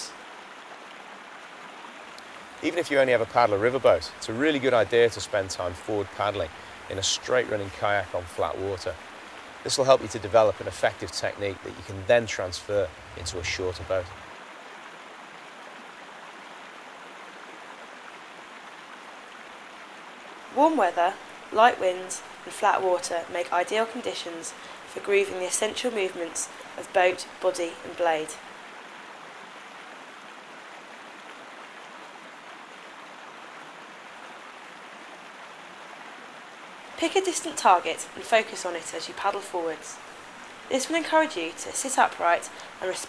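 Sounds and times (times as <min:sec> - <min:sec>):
water rushing: 0:00.0 - 0:43.0.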